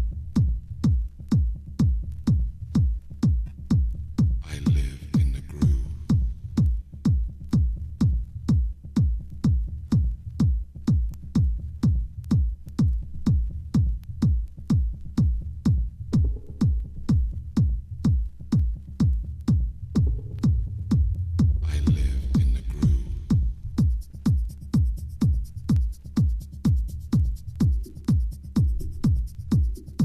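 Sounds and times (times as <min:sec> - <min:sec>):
electronic kick drum: 0:00.0 - 0:30.0
low bassline: 0:00.0 - 0:30.0.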